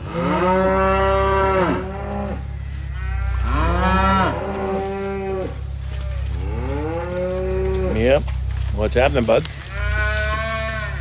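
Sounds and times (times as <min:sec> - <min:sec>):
cattle mooing: 0:00.0 - 0:11.0
steady low rumble: 0:01.8 - 0:11.0.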